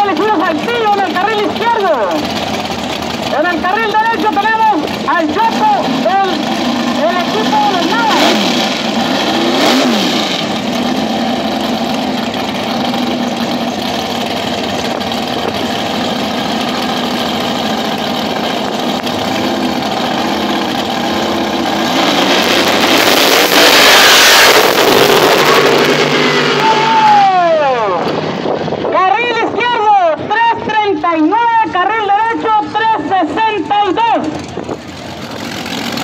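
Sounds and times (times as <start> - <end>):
full throttle launch: 0.0 - 28.9, 33.9 - 36.0
race car engines idling and blipping: 0.0 - 36.0.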